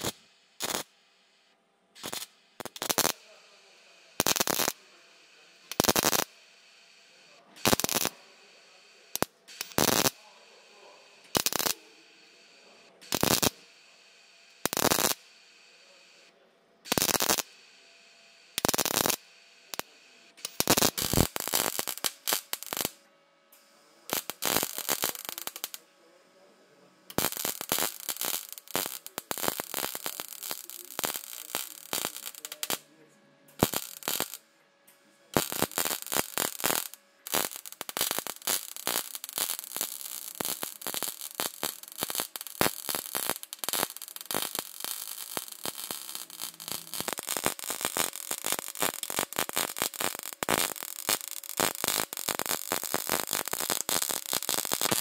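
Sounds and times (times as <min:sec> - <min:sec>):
welding arc crackling: 0:00.0 - 0:01.0, 0:02.0 - 0:06.4, 0:07.0 - 0:12.0, 0:12.6 - 0:13.7, 0:14.5 - 0:15.3, 0:16.9 - 0:17.6, 0:18.4 - 0:23.1, 0:24.0 - 0:25.8, 0:26.4 - 0:34.4, 0:35.2 - 0:55.0.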